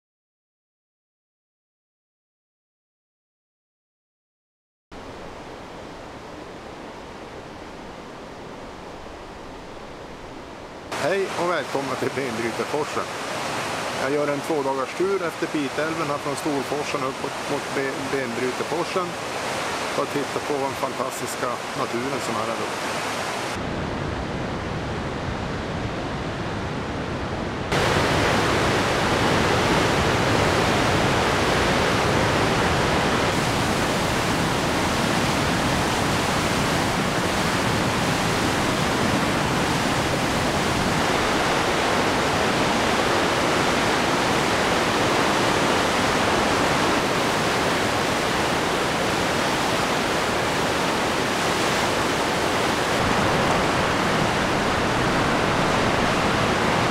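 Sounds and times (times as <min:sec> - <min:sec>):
river rapids rushing: 0:05.0 - 0:26.6, 0:27.7 - 0:56.9.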